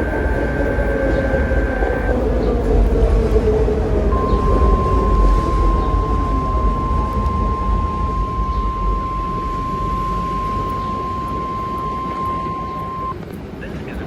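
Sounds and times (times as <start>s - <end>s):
steady warning beep tone: 0.0s - 2.3s, 4.1s - 13.1s
radio reception rumble and hiss: 0.0s - 14.0s.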